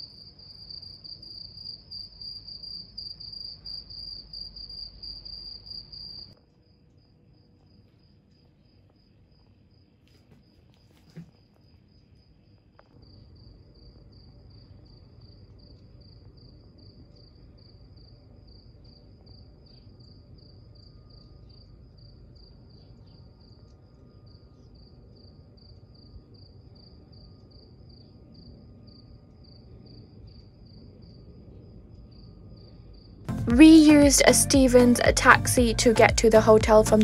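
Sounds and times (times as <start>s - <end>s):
crickets chirping: 0.0s - 33.3s.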